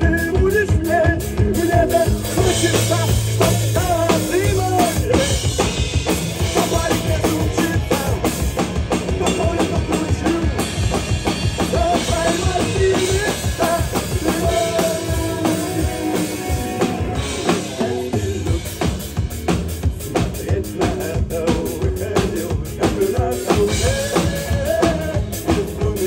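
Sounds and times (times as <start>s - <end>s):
drum kit played hard: 0.0s - 26.0s
pop song from loudspeakers: 0.0s - 26.0s.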